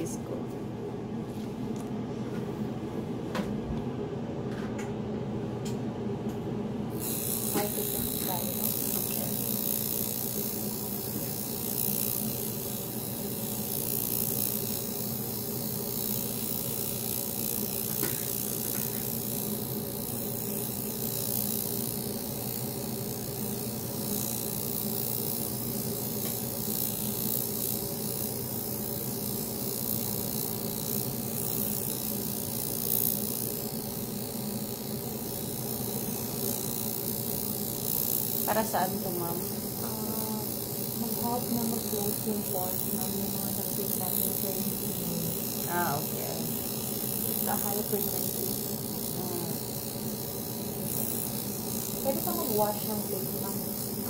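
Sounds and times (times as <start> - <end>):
electrical buzz with hiss: 6.9 - 54.0.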